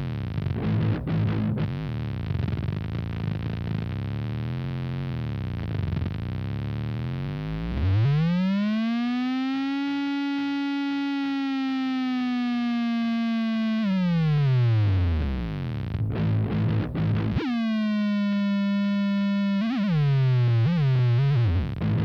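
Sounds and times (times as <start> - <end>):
flanger pedal electronic drone: 0.0 - 22.0.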